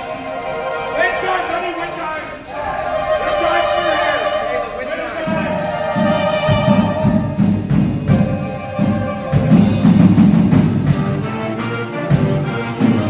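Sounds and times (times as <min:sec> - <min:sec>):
drums and percussion beating: 0:00.0 - 0:13.0
wind band playing: 0:00.0 - 0:13.0.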